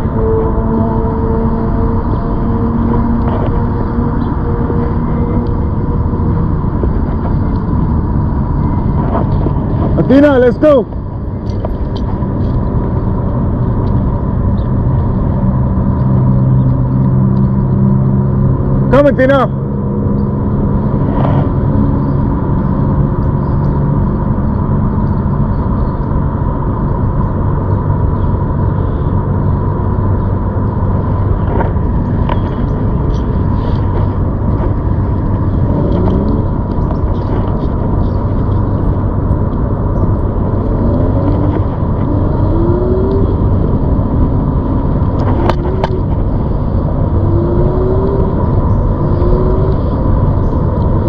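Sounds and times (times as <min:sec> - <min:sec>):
wind on microphone: 0:00.0 - 0:18.8, 0:19.6 - 0:51.0
electric bike riding rumble: 0:00.0 - 0:51.0.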